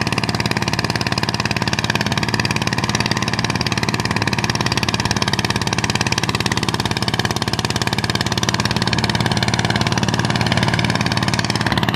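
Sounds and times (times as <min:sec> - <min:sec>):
tiller engine running steadily: 0:00.0 - 0:11.9.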